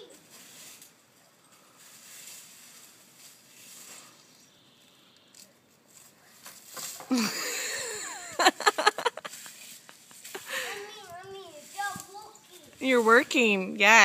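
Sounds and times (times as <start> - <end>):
dry leaves rustling into bin: 0.0 - 4.3, 5.9 - 13.8.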